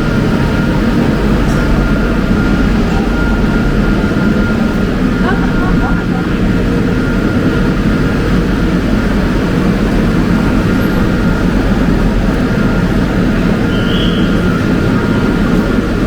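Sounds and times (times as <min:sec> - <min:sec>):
train interior rumble: 0:00.0 - 0:16.0.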